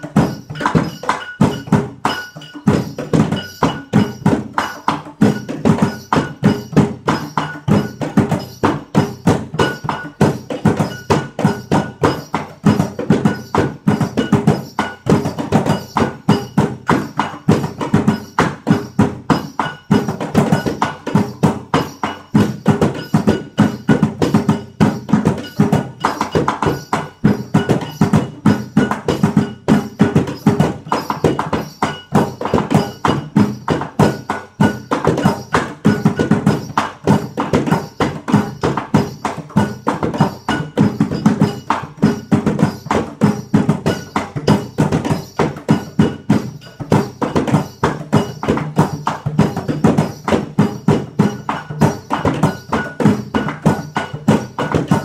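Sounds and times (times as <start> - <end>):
beating metal pot: 0.0 - 55.0.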